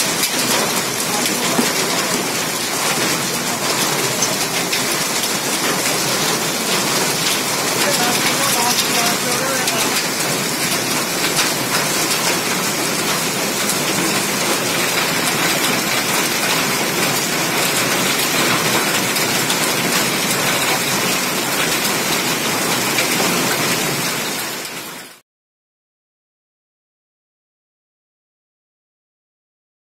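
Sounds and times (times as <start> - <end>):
heavy rain and hail: 0.0 - 25.2.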